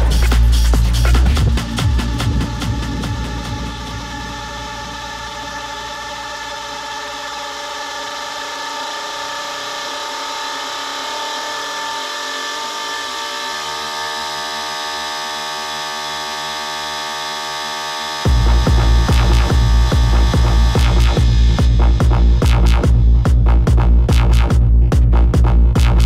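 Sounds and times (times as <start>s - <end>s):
low held synth notes: 0.0s - 26.0s
sustained synth chord: 0.0s - 26.0s.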